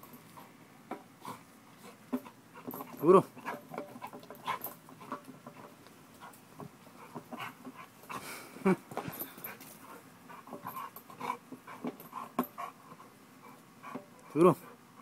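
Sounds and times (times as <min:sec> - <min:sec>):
dog panting and whimpering: 0:01.2 - 0:08.3, 0:09.3 - 0:15.0.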